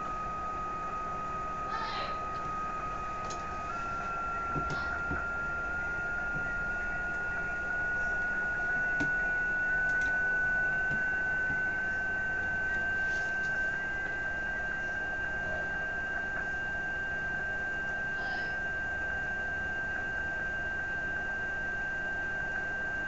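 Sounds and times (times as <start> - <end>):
continuous rising radio tone: 0.0 - 23.0.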